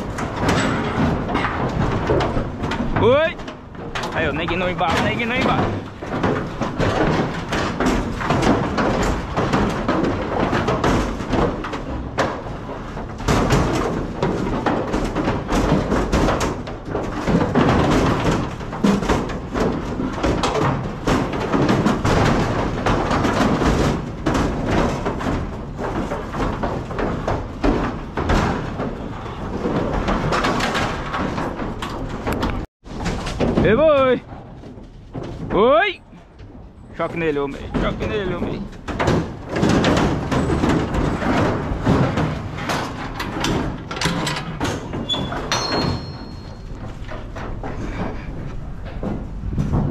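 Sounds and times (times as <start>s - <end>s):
cattle knocking against trailer sides: 0.0s - 49.9s
hooves clattering on metal: 0.0s - 49.9s.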